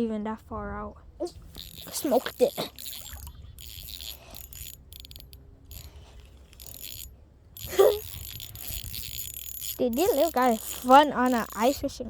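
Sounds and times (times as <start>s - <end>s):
fishing reel whirring and clicking: 1.4s - 12.0s.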